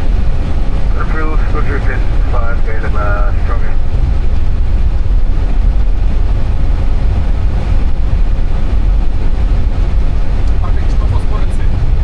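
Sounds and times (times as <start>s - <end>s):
cockpit rumble with hiss: 0.0s - 12.0s.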